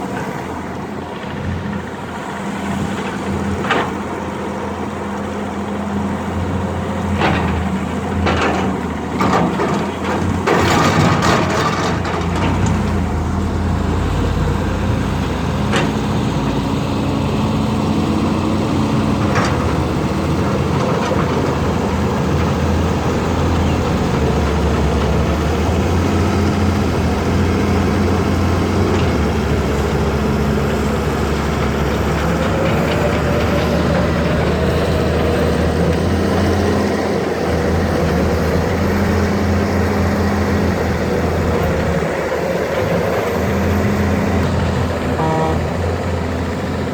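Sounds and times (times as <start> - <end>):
excavator diesel engines running: 0.0 - 46.9.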